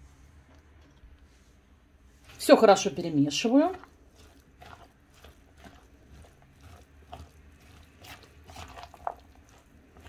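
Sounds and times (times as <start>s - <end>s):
spatula stirring wet salad: 1.9s - 10.0s.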